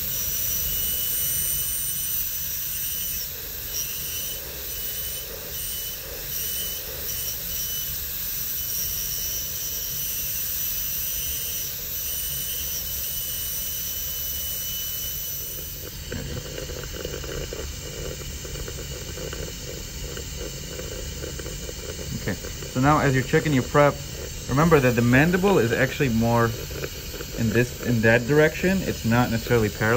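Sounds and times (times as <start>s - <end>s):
dental drill whining: 0.0s - 29.9s.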